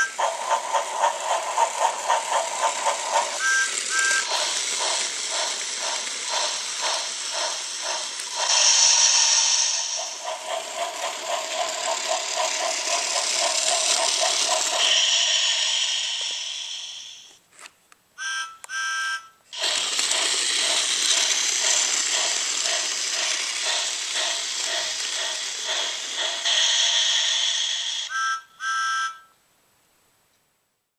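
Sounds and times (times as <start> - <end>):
toy train motor rattling whir: 0.0 - 17.7, 19.5 - 28.1.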